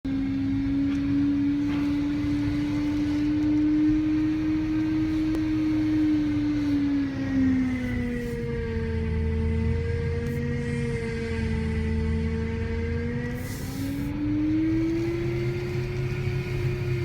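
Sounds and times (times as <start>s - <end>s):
car engine whine: 0.0s - 17.0s
low engine rumble: 0.1s - 17.0s.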